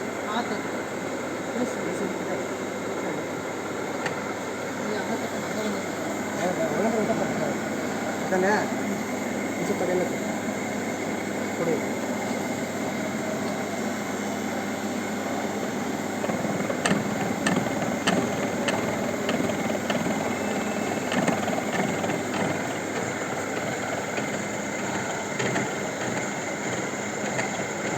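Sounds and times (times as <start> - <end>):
milling machine humming: 0.0 - 27.9.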